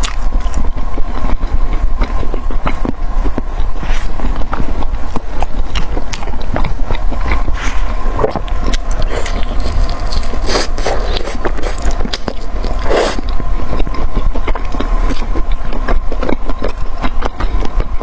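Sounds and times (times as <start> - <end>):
person crunching and chewing food: 0.0 - 18.0
steady low rumble: 0.0 - 18.0.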